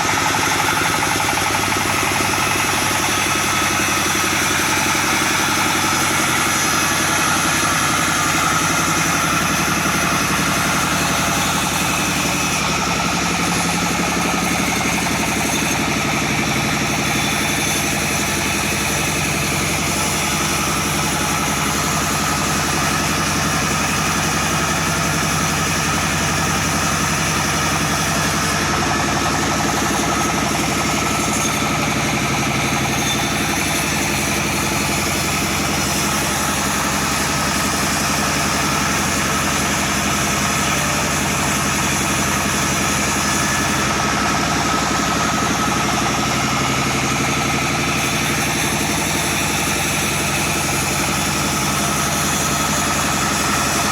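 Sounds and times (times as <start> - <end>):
chainsaw engine running: 0.0 - 53.9.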